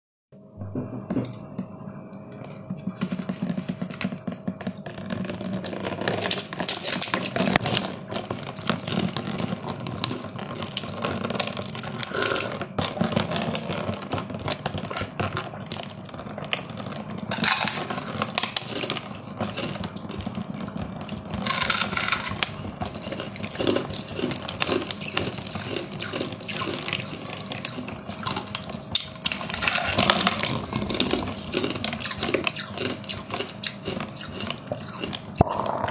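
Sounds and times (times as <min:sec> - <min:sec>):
plastic wrap crinkling: 0:03.0 - 0:33.0
ice being bitten and crunched: 0:05.4 - 0:35.9.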